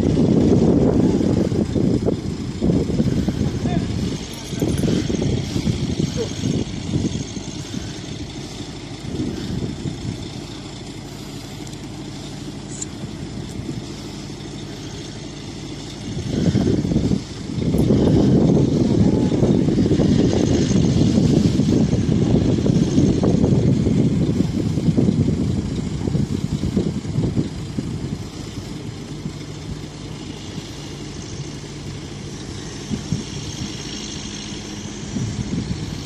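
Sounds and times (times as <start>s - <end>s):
crane diesel engine rumble: 0.0s - 36.0s.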